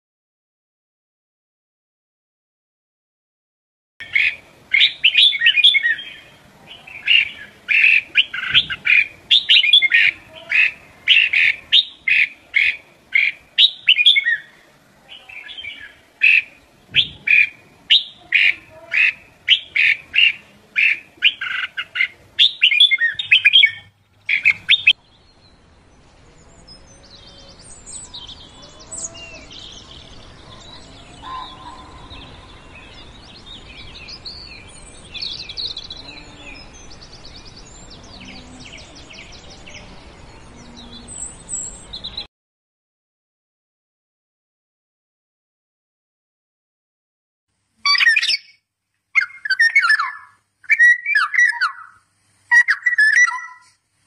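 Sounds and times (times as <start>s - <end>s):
other birds chirping and calling: 4.0s - 42.3s, 47.8s - 48.6s, 49.2s - 53.8s
songbird chirping rapidly: 4.0s - 42.3s, 47.8s - 53.8s.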